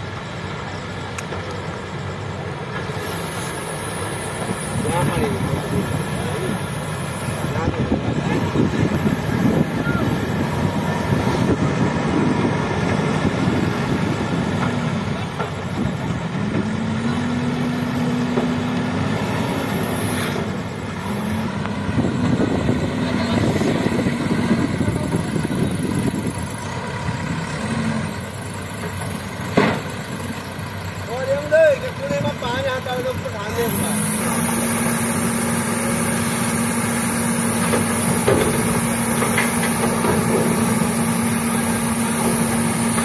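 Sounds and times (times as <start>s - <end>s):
diesel engines running: 0.0s - 43.0s.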